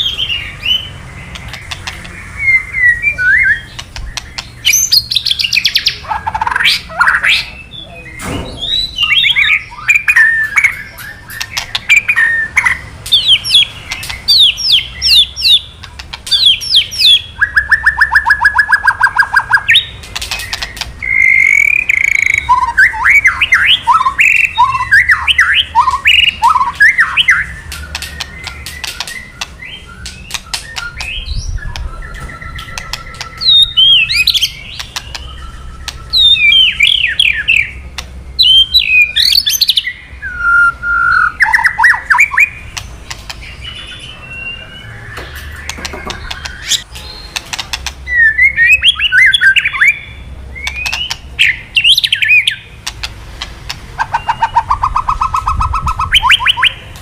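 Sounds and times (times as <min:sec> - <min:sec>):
songbird singing whistled notes: 0:00.0 - 0:15.7, 0:16.3 - 0:47.4, 0:48.0 - 0:52.7, 0:54.0 - 0:56.9.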